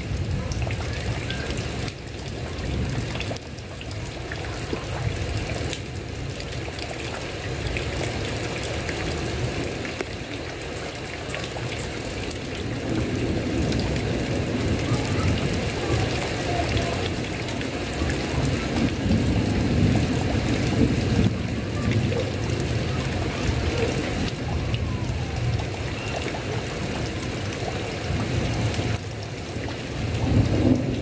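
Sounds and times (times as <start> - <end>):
heavy rain on a roof: 0.0 - 31.0.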